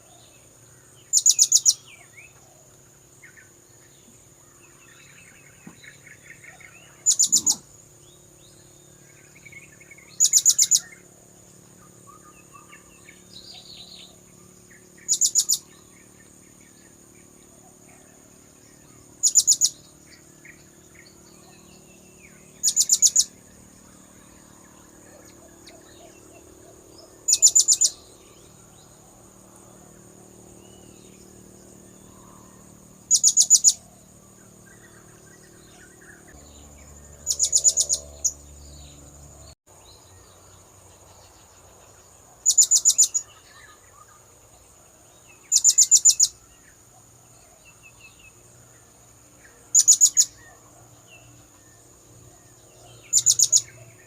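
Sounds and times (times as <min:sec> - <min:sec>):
faint bird chirps: 0:00.0 - 0:54.0
steady high-pitched whine: 0:00.0 - 0:54.0.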